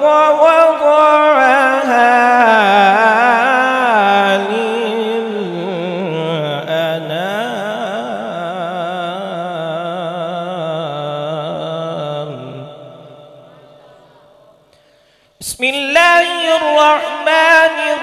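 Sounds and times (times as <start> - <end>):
man reciting melodically: 0.0 - 14.1, 15.3 - 18.0.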